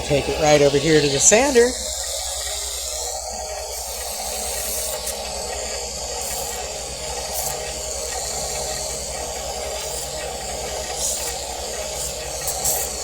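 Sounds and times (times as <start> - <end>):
small electric motor running: 0.0 - 13.0
wood being sanded: 0.0 - 13.0.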